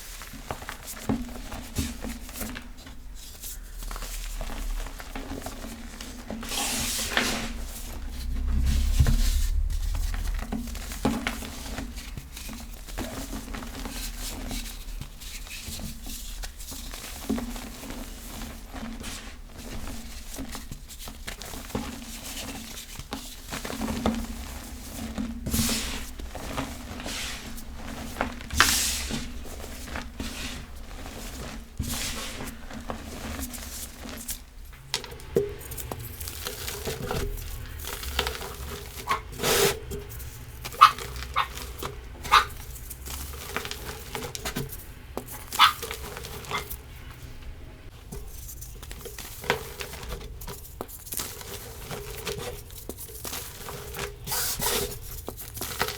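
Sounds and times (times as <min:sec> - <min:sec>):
chalk crunching and crumbling: 0:00.0 - 0:47.4.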